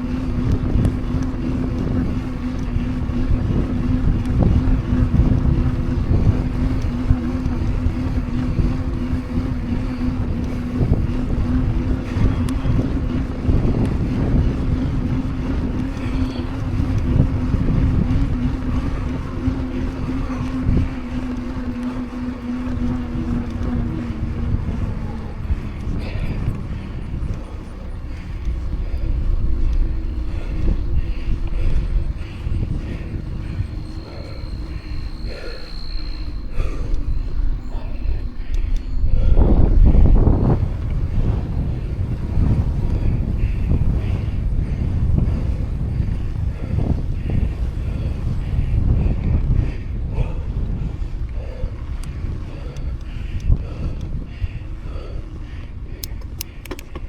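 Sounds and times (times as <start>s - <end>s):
bike tyres humming on pavement: 0.0s - 57.0s
wind rushing over microphone: 0.0s - 57.0s.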